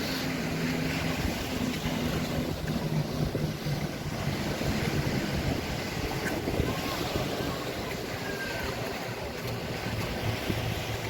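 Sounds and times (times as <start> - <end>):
surf washing on beach: 0.0 - 11.0
wind on microphone: 0.0 - 11.0.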